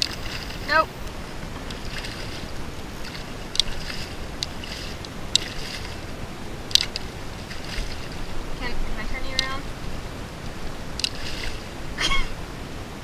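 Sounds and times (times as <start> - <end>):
sharp splashes: 0.0 - 12.4
water lapping against boat: 0.0 - 12.5
wind on microphone: 0.0 - 13.0.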